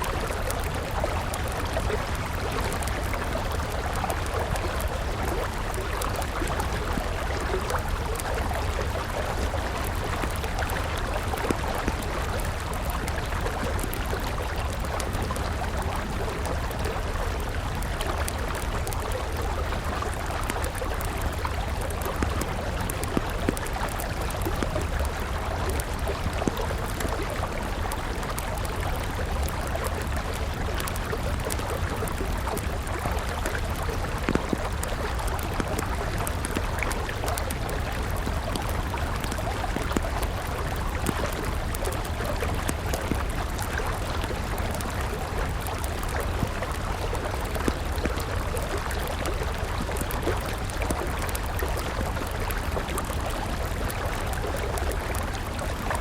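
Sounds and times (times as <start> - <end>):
campfire crackling and popping: 0.0 - 56.0
river water flowing: 0.0 - 56.0.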